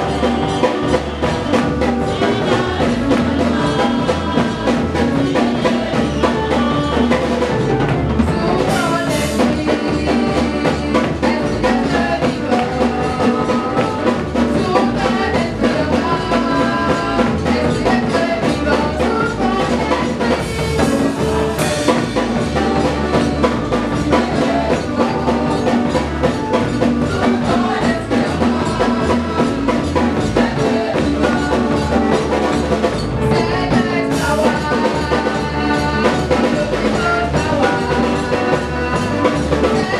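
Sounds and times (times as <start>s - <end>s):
drum kit: 0.0s - 39.9s
women singing through microphones: 0.0s - 39.9s.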